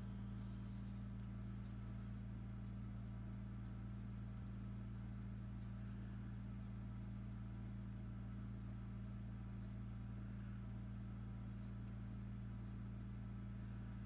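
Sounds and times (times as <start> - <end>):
fan motor humming: 0.0 - 14.0.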